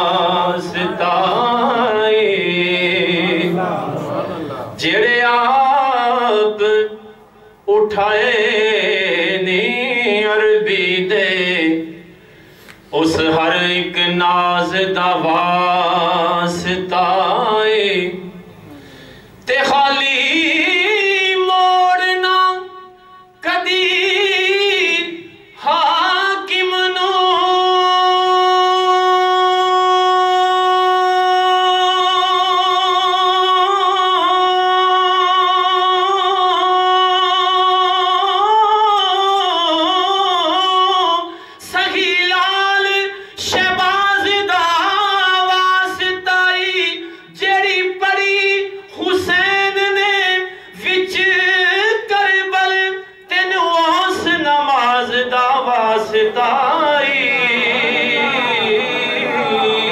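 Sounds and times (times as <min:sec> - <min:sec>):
man singing unaccompanied: 0:00.0 - 0:12.1, 0:12.9 - 0:18.4, 0:19.4 - 0:59.9.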